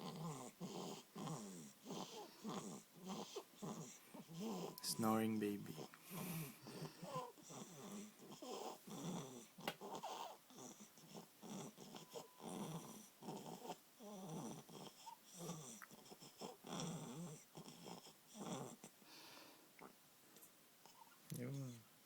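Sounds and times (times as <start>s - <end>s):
baby snoring softly: 0.0s - 20.0s, 20.8s - 21.9s.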